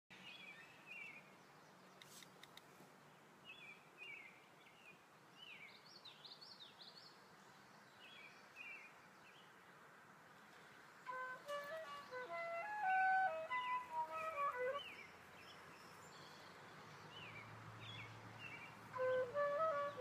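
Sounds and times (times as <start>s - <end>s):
background noise: 0.1s - 20.0s
faint birdsong chirping: 0.1s - 20.0s.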